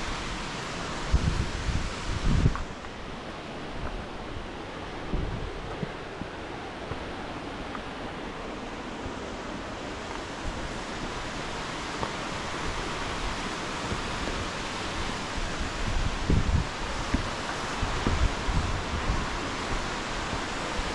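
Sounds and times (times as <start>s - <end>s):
rushing water: 0.0s - 20.9s
wind buffeting microphone: 0.9s - 8.3s, 10.0s - 20.9s.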